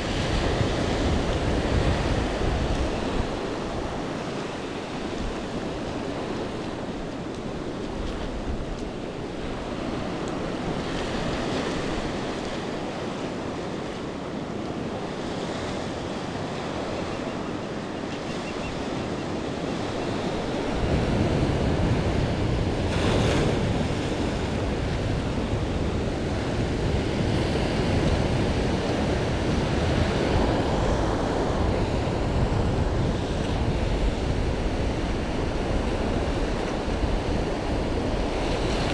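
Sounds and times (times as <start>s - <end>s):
waves washing up a sandy beach: 0.0s - 38.9s
wind buffeting microphone: 0.0s - 38.9s.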